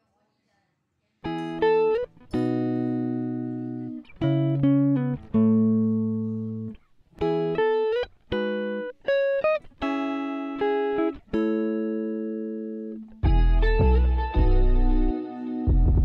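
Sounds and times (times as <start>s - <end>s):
plucked guitar chords: 1.3s - 16.0s.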